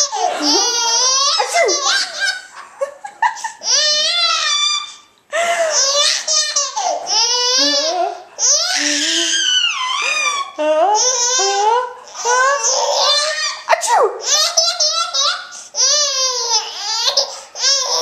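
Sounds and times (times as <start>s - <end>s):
baby laughing: 0.0s - 18.0s.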